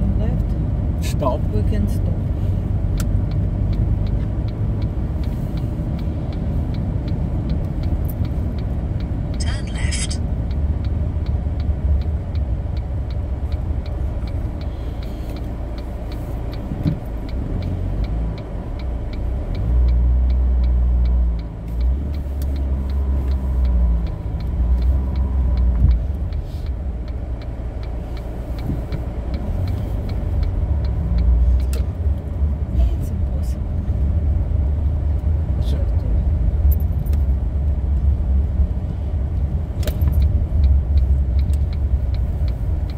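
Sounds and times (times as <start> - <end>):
light even ticking: 0.0 - 9.5, 10.2 - 42.9
car engine and tyre rumble: 0.0 - 42.9.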